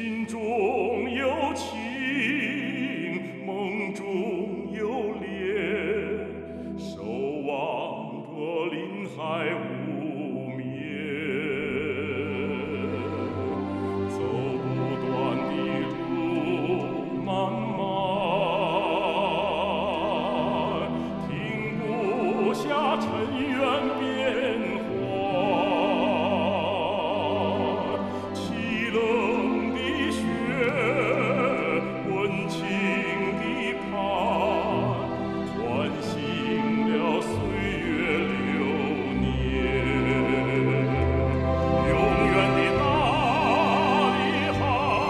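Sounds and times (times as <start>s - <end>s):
orchestral backing: 0.0s - 45.0s
person singing with vibrato: 0.0s - 45.0s.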